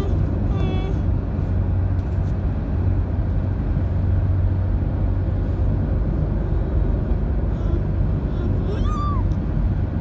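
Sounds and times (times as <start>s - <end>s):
car engine hum: 0.0s - 10.0s.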